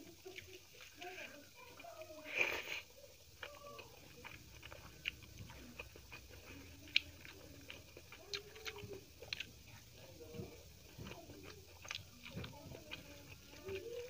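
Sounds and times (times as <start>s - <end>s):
close chewing and mouth sounds: 0.0s - 14.0s.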